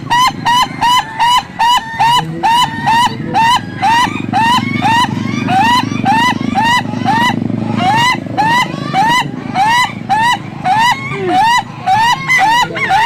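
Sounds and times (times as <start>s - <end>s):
low steady rumble: 0.0s - 13.0s
rooster laughing crow: 0.0s - 13.0s.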